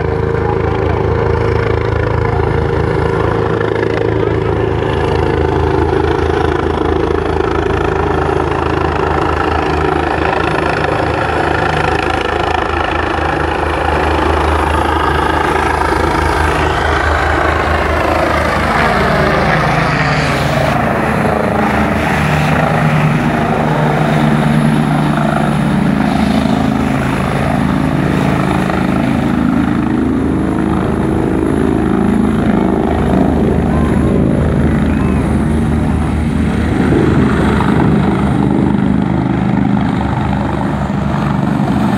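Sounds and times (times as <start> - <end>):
helicopter rotor and turbines: 0.0 - 41.9.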